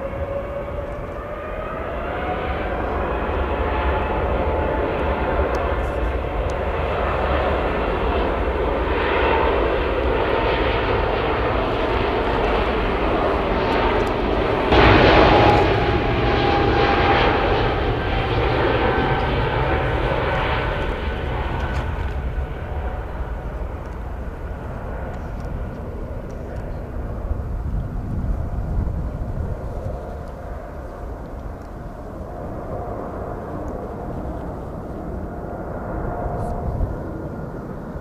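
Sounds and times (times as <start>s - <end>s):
jet aircraft taking off: 0.0s - 38.0s.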